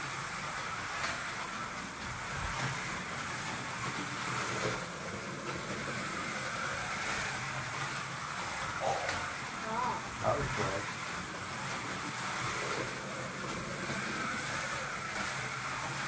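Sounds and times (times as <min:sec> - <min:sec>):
slot car motor whirring: 0:00.0 - 0:16.0.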